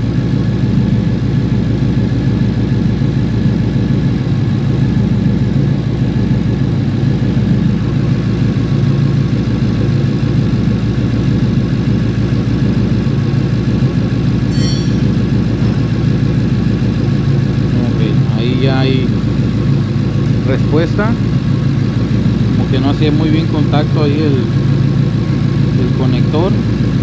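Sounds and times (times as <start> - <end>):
car engine idling with misfire: 0.0 - 27.0.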